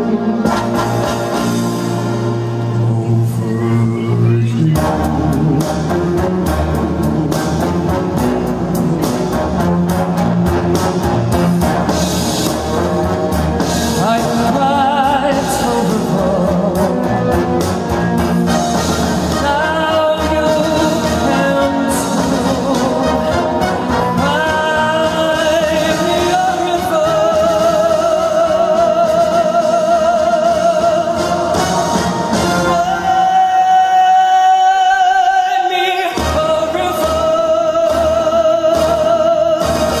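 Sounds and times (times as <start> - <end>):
man singing with vibrato: 0.0 - 9.8, 13.6 - 40.0
backing music: 0.0 - 40.0.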